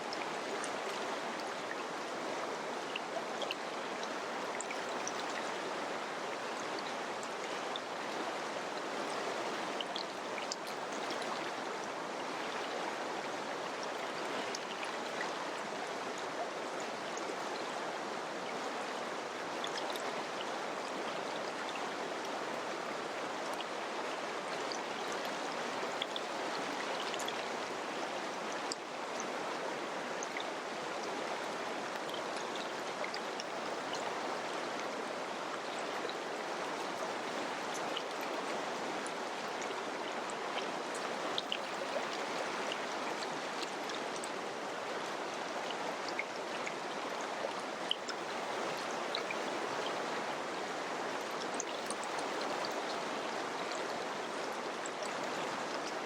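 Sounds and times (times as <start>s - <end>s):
river water flowing: 0.0s - 56.0s
water splashes and drips: 0.0s - 56.0s.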